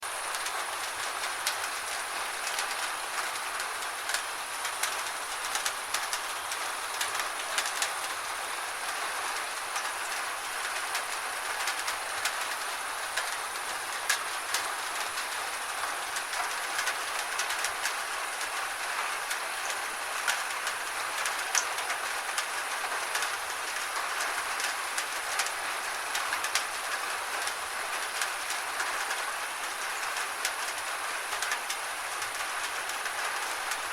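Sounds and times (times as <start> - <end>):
rain on a tin roof: 0.0 - 33.9.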